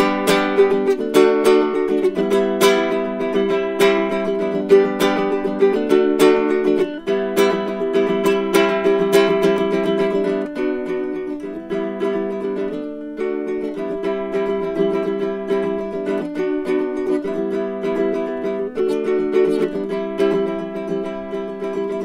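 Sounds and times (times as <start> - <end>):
baritone ukulele music: 0.0 - 22.0.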